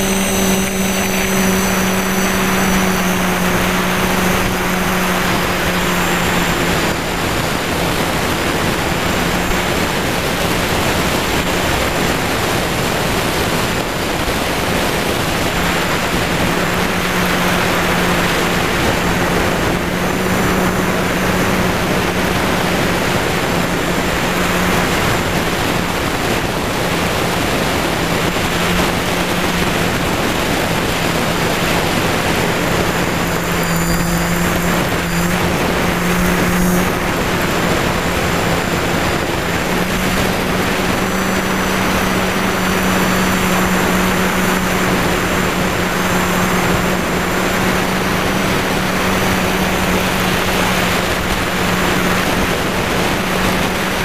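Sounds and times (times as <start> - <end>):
drone motors humming: 0.0 - 54.0
wind noise on microphone: 0.0 - 54.0.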